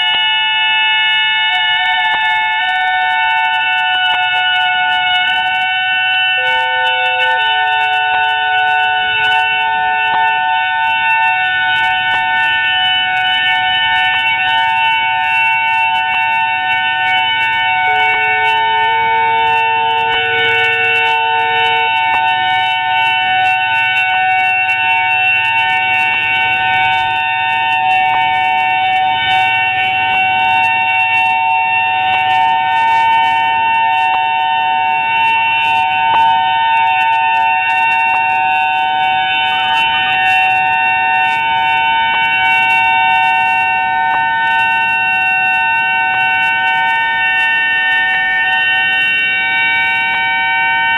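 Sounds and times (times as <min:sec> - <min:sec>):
steady two-tone alarm: 0:00.0 - 0:50.9.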